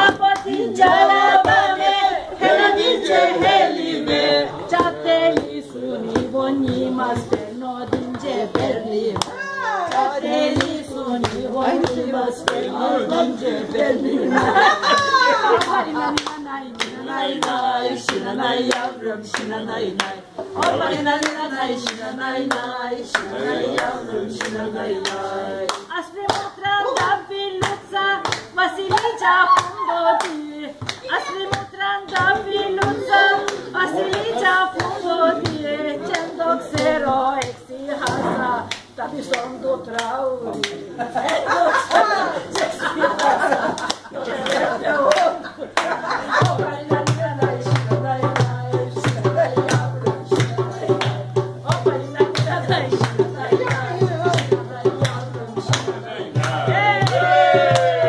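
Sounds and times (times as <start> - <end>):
hand claps: 0.0 - 1.9, 3.4 - 13.3, 14.4 - 58.0
people singing together: 0.0 - 58.0.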